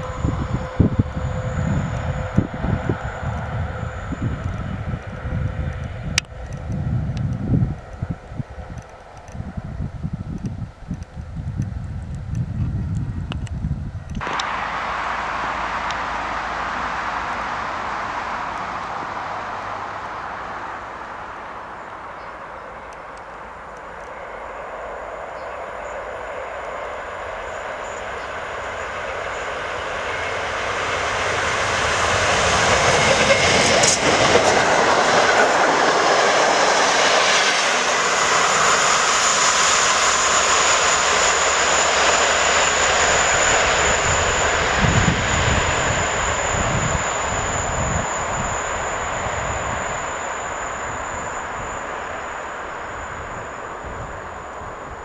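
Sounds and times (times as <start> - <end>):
steady high tone: 0.0 - 8.8, 14.2 - 55.0
train wheels rumbling on rail: 0.0 - 55.0.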